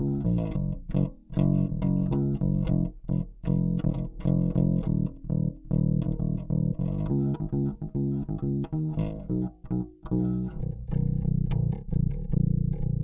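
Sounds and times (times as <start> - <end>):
electric bass plucked fingerstyle: 0.0 - 13.0.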